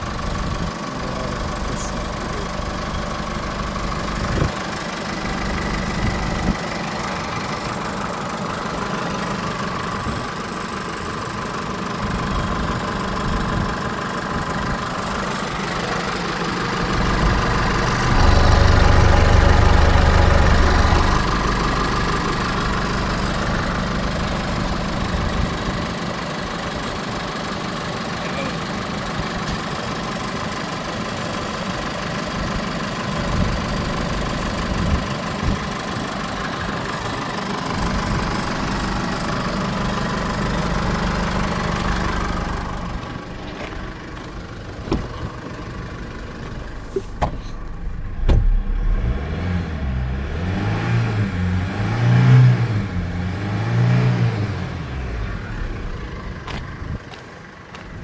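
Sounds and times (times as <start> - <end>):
diesel engine idling and revving: 0.0 - 58.0.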